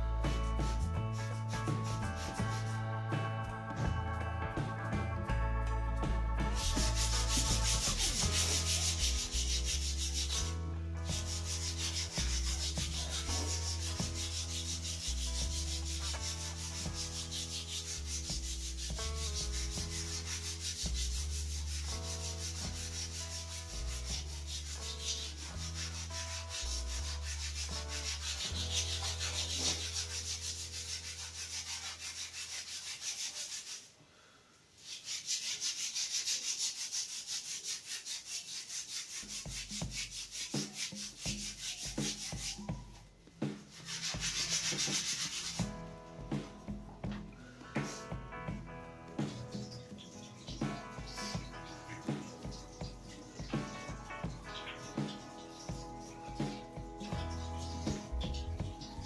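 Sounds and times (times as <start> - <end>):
background music: 0.0 - 32.2, 41.1 - 59.0
sandpaper rubbing on wood: 0.3 - 2.8, 6.5 - 34.0, 34.8 - 42.8, 43.6 - 45.7, 47.8 - 48.1, 49.2 - 59.0.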